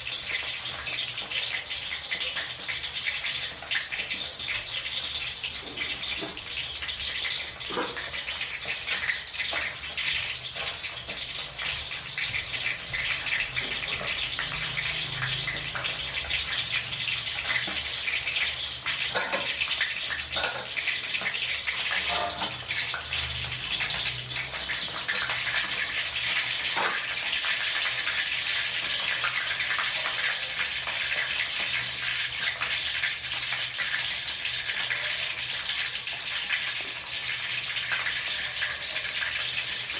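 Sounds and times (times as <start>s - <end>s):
hot oil sizzling in a wok: 0.0s - 39.9s.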